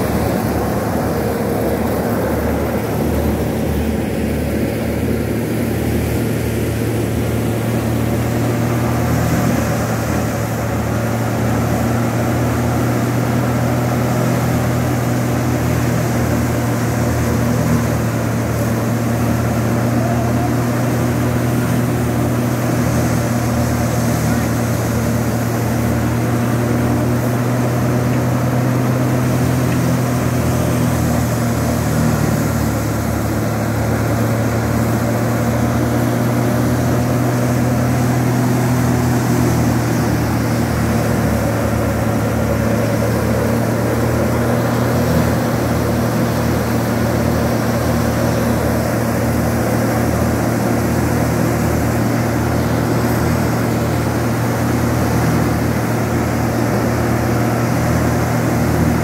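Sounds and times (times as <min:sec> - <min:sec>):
wheat thresher running: 0:00.0 - 0:59.0.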